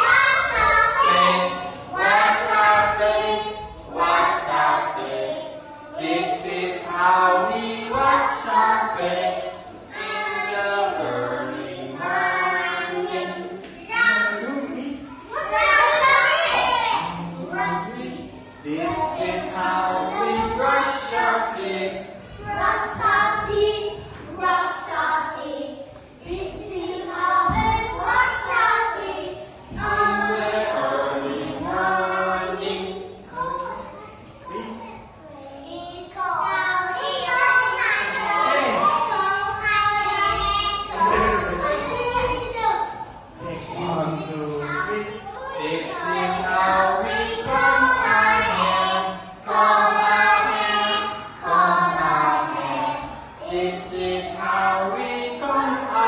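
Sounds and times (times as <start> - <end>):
children singing in unison: 0.0 - 14.5, 15.3 - 33.8, 35.7 - 56.0.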